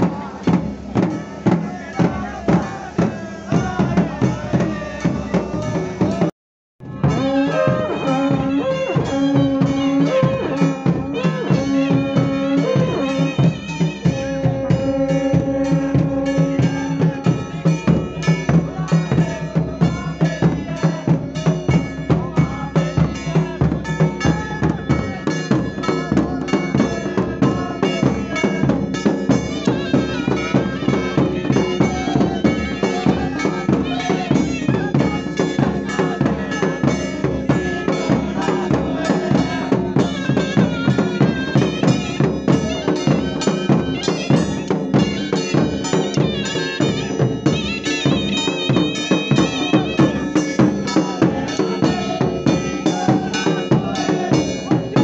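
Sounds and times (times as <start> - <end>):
reedy wind instrument melody: 0.0 - 55.0
steady drum beats: 0.0 - 55.0.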